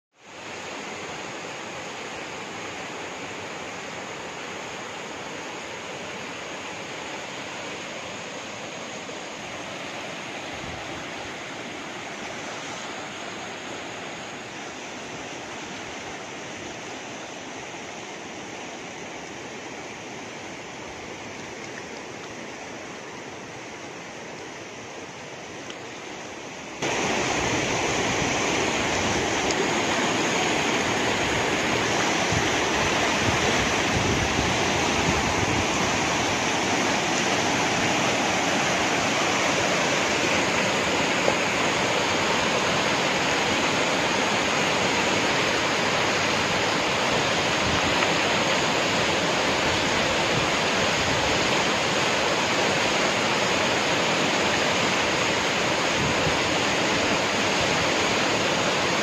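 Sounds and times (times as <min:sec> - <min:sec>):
water gushing through rapids: 0:00.2 - 0:59.0.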